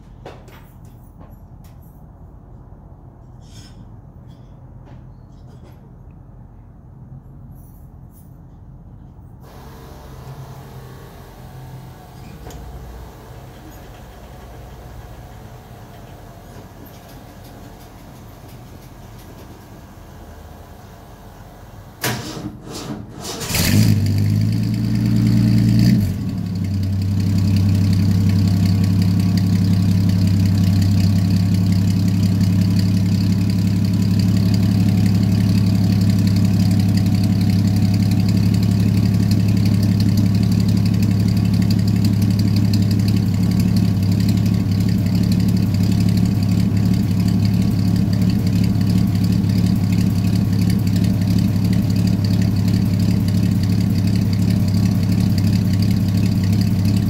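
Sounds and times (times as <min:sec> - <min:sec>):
truck engine idling: 0:09.5 - 0:22.0, 0:23.5 - 0:57.0.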